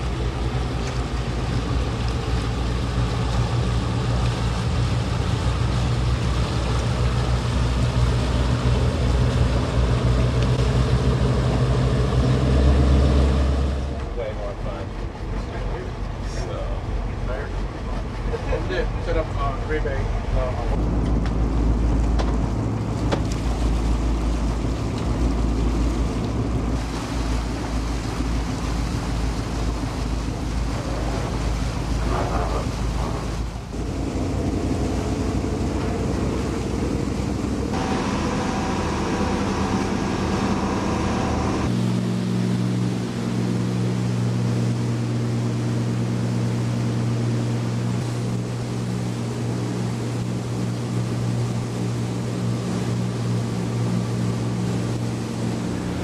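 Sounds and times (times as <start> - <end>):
engine drone: 0.0 - 56.0
low even hum: 0.0 - 56.0.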